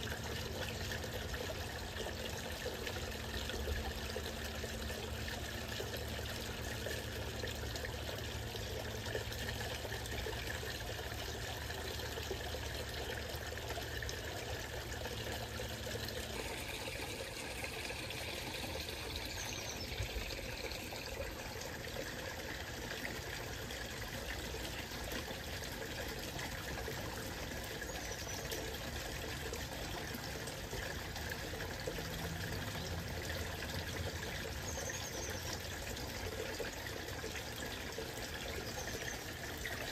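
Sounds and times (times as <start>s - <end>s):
water pouring into pond: 0.0s - 39.9s.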